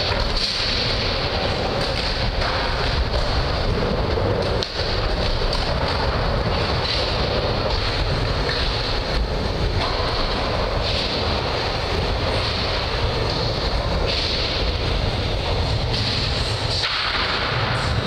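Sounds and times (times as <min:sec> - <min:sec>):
skateboard clacks: 0:00.0 - 0:18.0
skateboard wheels rolling on wood: 0:00.0 - 0:18.0.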